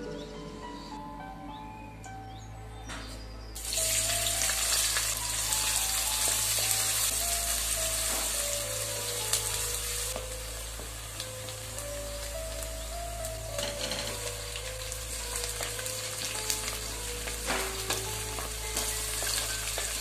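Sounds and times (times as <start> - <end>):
onions sizzling in hot oil: 3.6 - 20.0.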